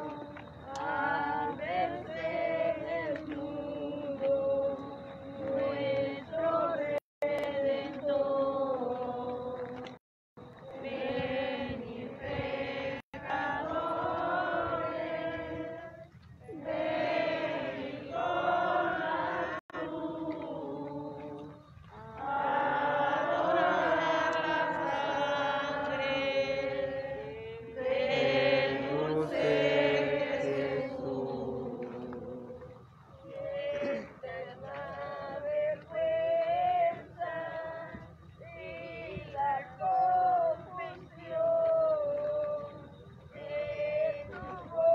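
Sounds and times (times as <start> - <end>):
crowd singing a hymn: 0.0 - 44.9.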